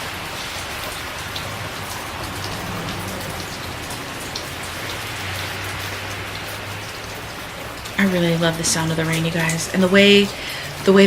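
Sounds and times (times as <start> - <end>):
rain drops ticking: 0.0 - 11.0.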